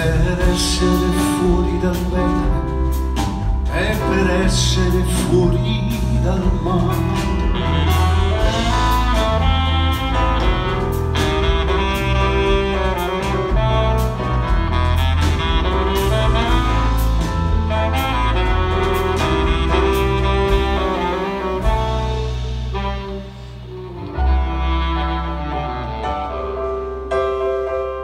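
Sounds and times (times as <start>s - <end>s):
band playing instrumental: 0.0s - 28.0s.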